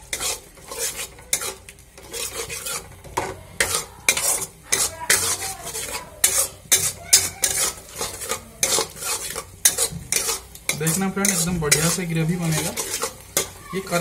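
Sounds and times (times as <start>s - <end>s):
masala sizzling: 0.0s - 14.0s
metal spatula scraping a pan: 0.0s - 14.0s.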